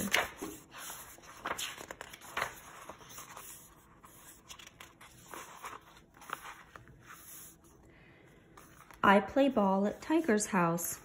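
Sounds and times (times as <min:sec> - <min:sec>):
book pages turning: 0:00.0 - 0:10.4.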